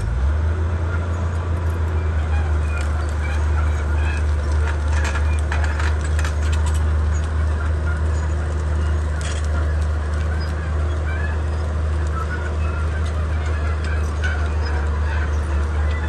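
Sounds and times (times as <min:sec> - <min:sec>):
bulldozer diesel engine running: 0:00.0 - 0:16.0
short high squeaks: 0:01.8 - 0:16.0.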